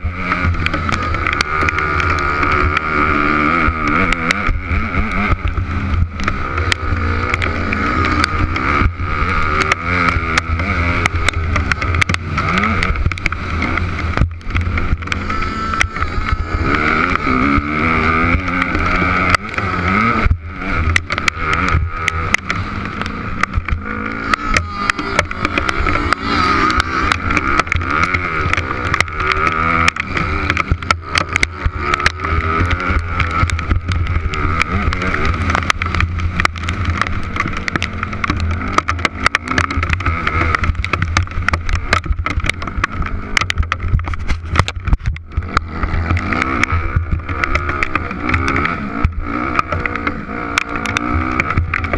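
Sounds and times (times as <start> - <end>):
dirt bike engine revving: 0.0 - 51.9
sharp ticks on camera: 0.0 - 51.9.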